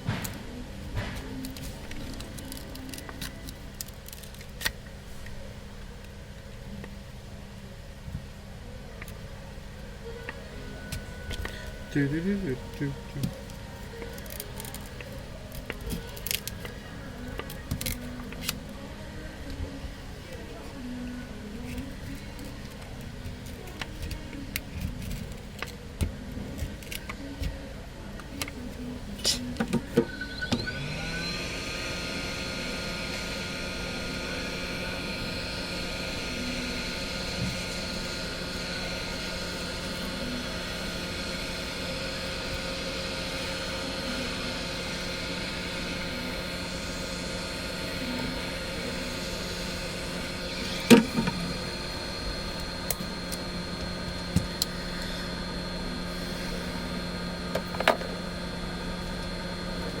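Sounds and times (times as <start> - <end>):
small electric motor humming: 10.0 - 19.0, 19.6 - 60.0.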